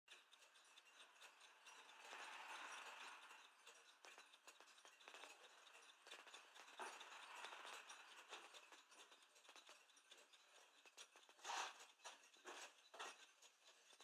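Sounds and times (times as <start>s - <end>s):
clock movement clicking and rattling: 0.1s - 14.0s.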